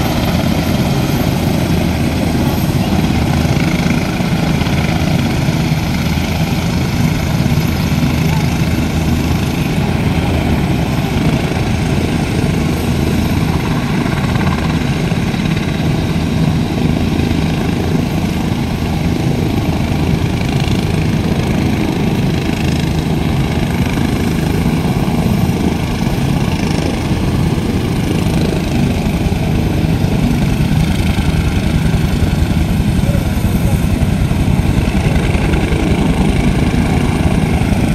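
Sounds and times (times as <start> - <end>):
helicopter engines and rotors: 0.0 - 37.9.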